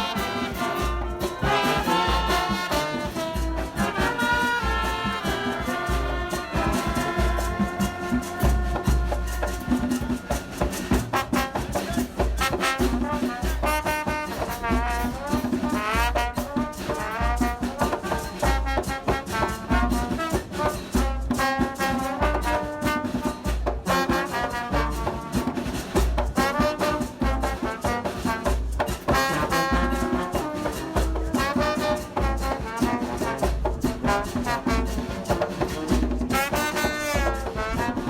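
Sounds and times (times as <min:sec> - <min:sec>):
trombone and trumpet melody: 0:00.0 - 0:38.0.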